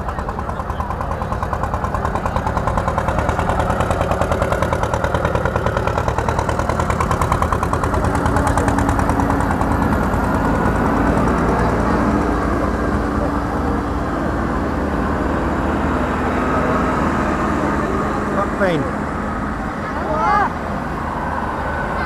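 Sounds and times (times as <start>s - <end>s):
diesel engines of diggers: 0.0s - 22.0s.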